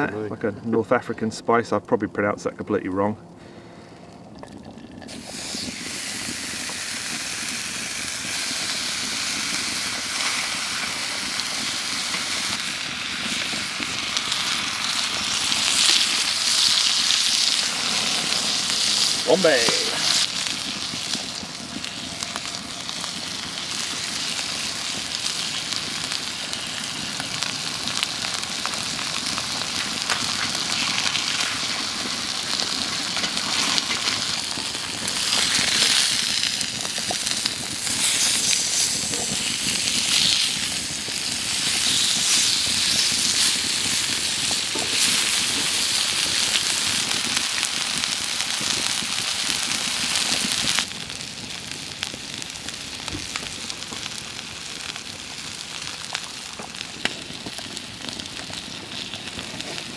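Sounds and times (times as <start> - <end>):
fire crackles and pops: 0.0 - 59.9
meat sizzling on a griddle: 5.1 - 59.9.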